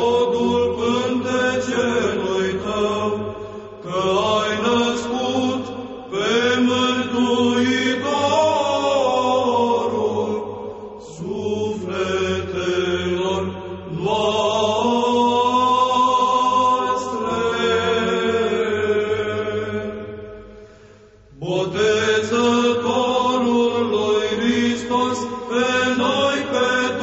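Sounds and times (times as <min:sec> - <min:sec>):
voices chanting: 0:00.0 - 0:20.0, 0:21.4 - 0:27.0.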